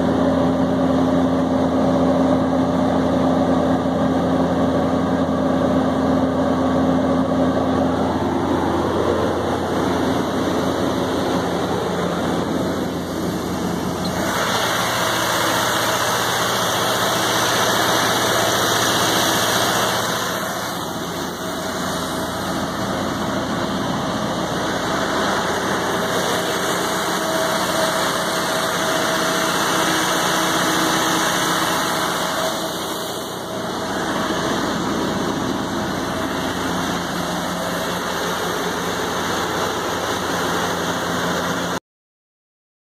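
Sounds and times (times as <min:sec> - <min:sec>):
diesel generator running: 0:00.0 - 0:41.8.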